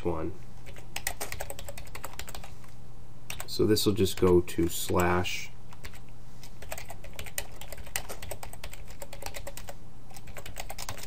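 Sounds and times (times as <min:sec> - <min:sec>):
keyboard typing: 0:00.6 - 0:02.5, 0:03.3 - 0:03.5, 0:04.2 - 0:11.0.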